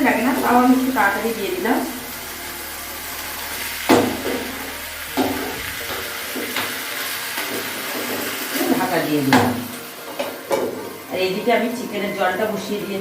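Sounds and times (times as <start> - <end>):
curry hissing in a pan: 0.0 - 13.0.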